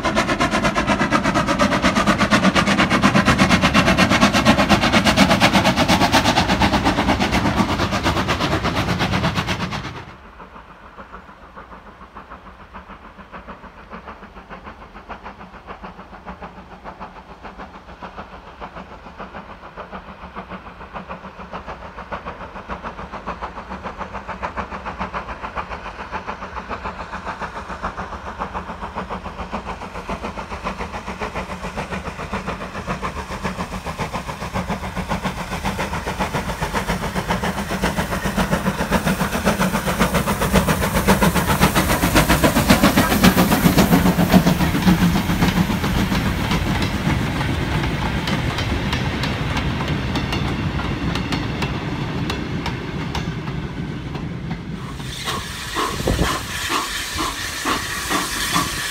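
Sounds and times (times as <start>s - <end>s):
steam locomotive exhaust beating: 0.0s - 58.9s.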